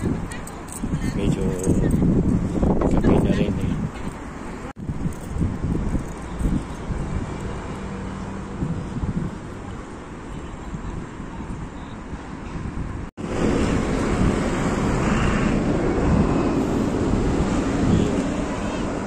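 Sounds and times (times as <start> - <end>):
city traffic rumble: 0.0 - 19.0
wind buffeting microphone: 0.0 - 19.0.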